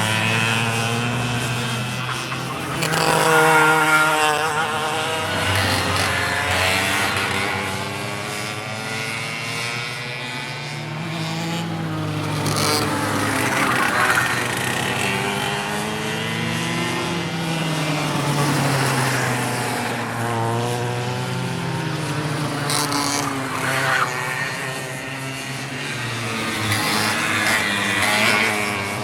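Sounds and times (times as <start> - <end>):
go-kart engines revving and passing: 0.0 - 29.0.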